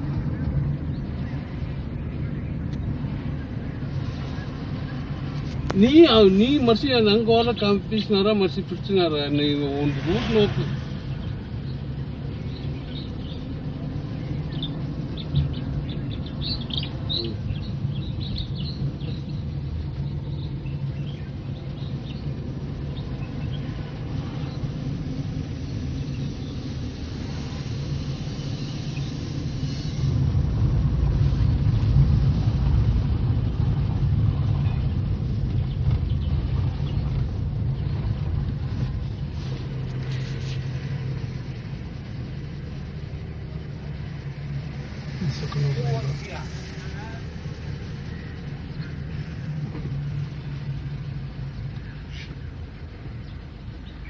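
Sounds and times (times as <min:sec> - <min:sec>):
birds chirping faintly: 0:00.0 - 0:54.0
car engine and road noise: 0:00.0 - 0:54.0.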